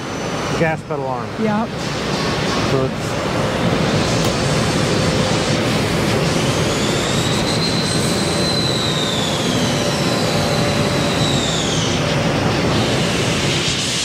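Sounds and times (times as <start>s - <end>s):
high spindle whine: 0.0s - 14.0s.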